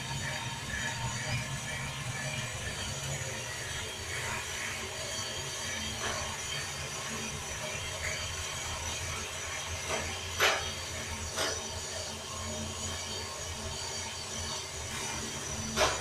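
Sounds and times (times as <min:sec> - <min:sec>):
coffee roaster hum and rattle: 0:00.0 - 0:16.0.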